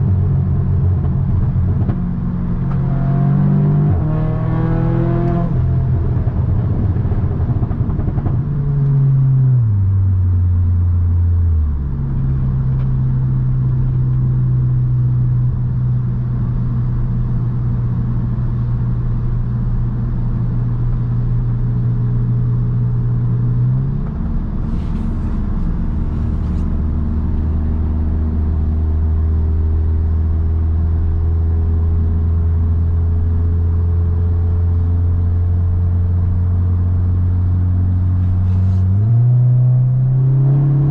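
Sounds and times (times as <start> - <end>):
car engine and exhaust: 0.0 - 40.9.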